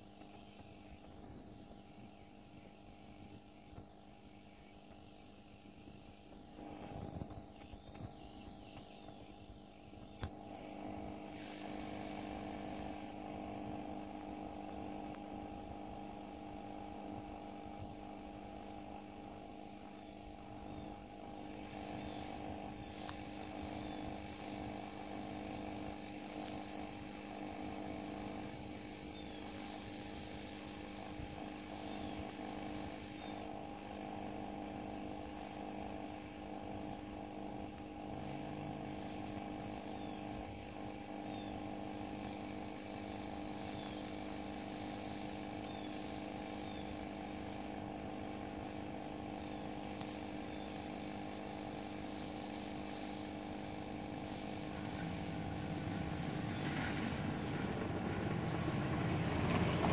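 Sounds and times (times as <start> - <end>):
machine humming: 0.0 - 59.9.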